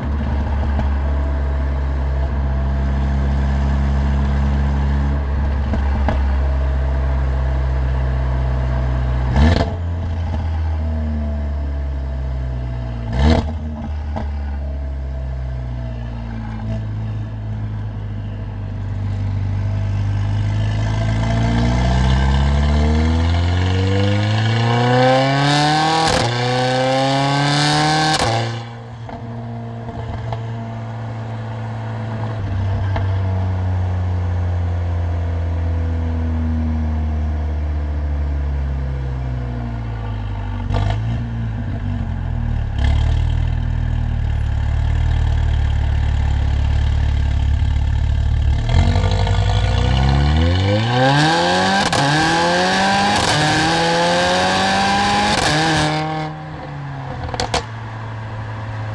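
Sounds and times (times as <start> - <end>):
car engine accelerating: 0.0 - 58.9.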